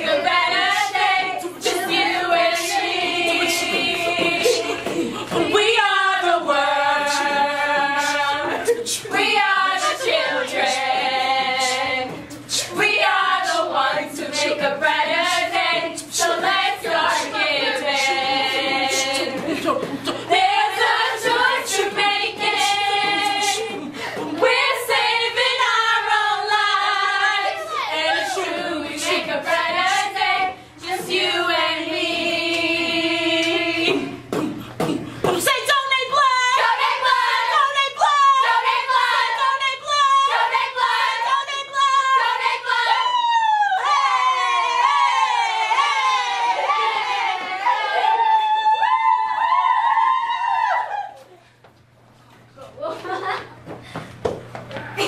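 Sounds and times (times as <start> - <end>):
women singing together: 0.0 - 51.4.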